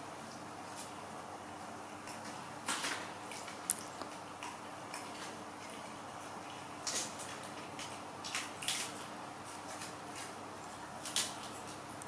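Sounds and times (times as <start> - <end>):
faint steady hum: 0.0 - 12.0
monkeys chewing crisp leaves: 2.0 - 12.0.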